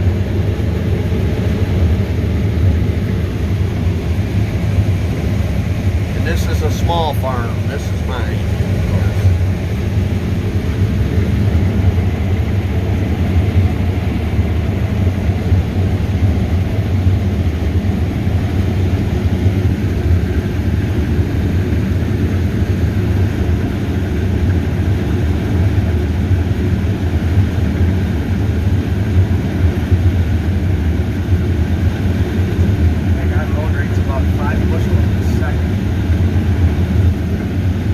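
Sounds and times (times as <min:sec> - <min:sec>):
farm machinery engines droning: 0:00.0 - 0:37.9.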